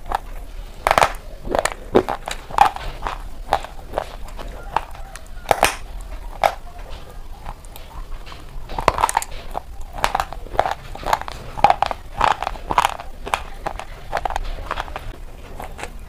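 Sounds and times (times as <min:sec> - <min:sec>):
crunching of sticks being chewed: 0:00.0 - 0:16.0.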